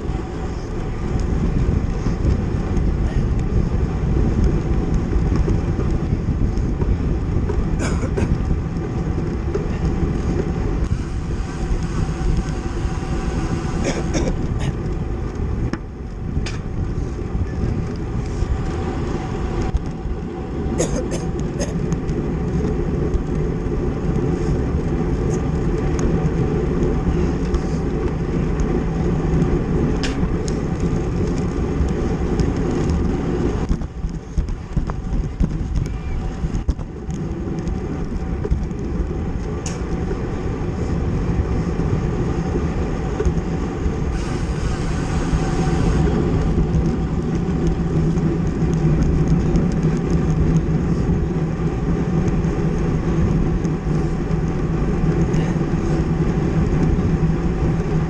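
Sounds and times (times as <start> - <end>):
bicycle road rumble: 0.0 - 58.0
wind on microphone: 0.0 - 58.0.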